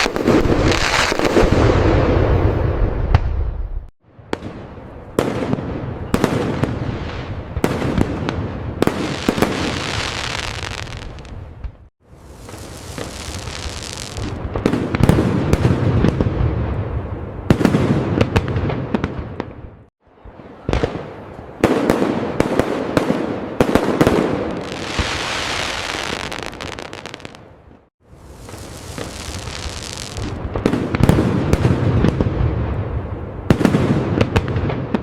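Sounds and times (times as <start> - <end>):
crackling fireworks fizzing: 0.0 - 3.3, 4.3 - 19.5, 20.2 - 35.0
fireworks bangs: 0.0 - 27.5, 28.2 - 35.0.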